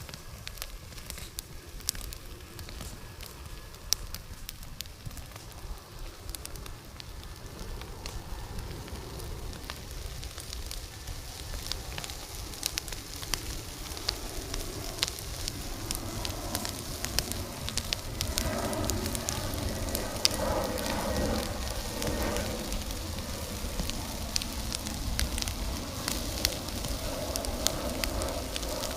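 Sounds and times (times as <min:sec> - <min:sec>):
bonfire crackling and popping: 0:00.0 - 0:28.9.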